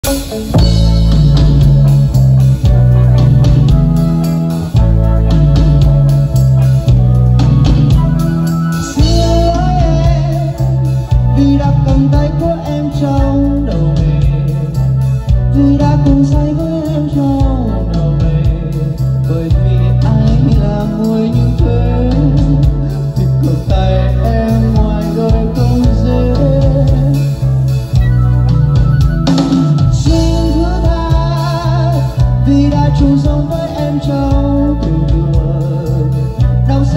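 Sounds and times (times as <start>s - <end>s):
band playing instrumental intro: 0.0s - 36.9s
bass guitar: 0.0s - 36.9s
guitar: 0.0s - 36.9s.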